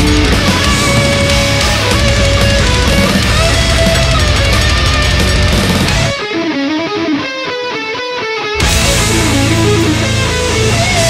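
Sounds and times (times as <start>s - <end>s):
heavy rock music: 0.0s - 11.0s
muffled guitar riff: 0.0s - 11.0s.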